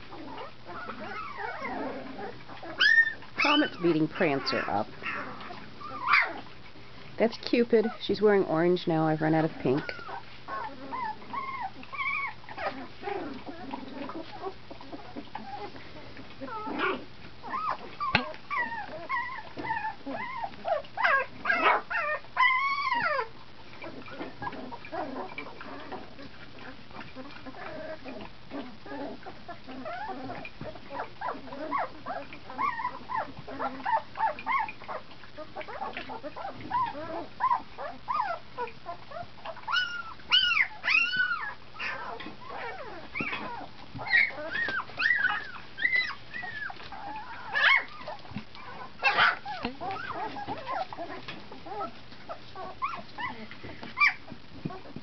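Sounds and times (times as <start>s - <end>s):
puppies making high calls: 0.0s - 6.7s, 9.7s - 55.0s.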